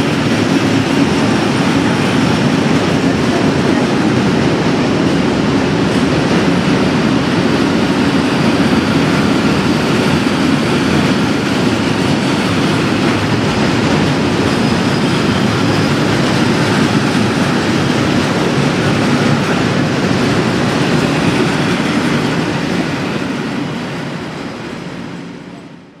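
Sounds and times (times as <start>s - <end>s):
train passing on rails: 0.0s - 26.0s.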